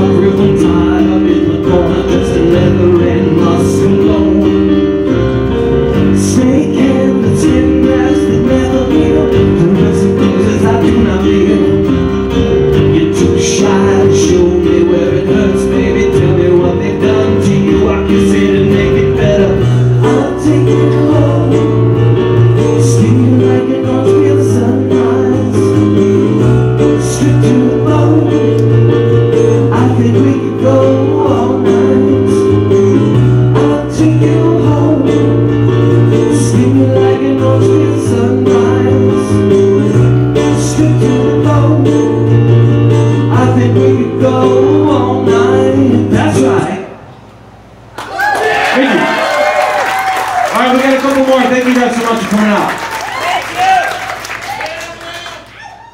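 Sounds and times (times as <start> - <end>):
man singing: 0.0 - 47.0
keyboard: 0.0 - 47.8.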